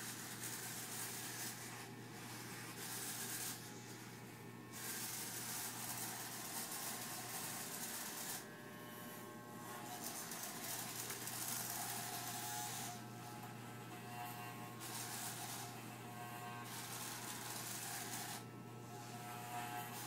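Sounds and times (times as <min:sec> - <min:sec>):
hissy hair cutting sound: 0:00.0 - 0:08.5, 0:09.1 - 0:20.0
electric hair clippers buzzing: 0:00.0 - 0:20.0.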